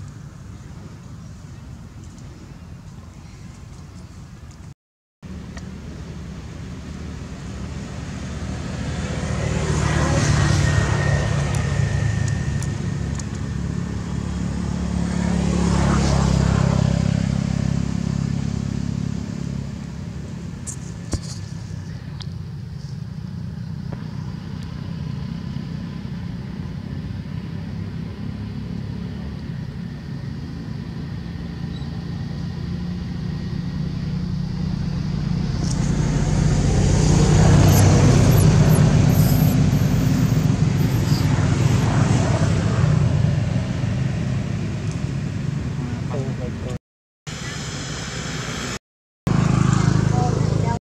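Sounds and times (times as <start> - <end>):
road traffic rumble: 0.0 - 50.8.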